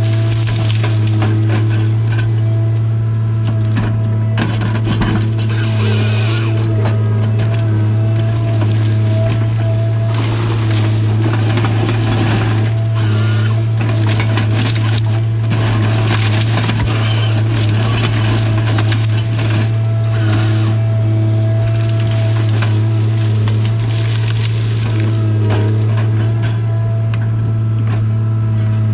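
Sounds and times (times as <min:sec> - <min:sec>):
wood cracking and crunching: 0:00.0 - 0:28.1
harvester engine drone: 0:00.0 - 0:28.9
hydraulic whine: 0:00.0 - 0:28.9.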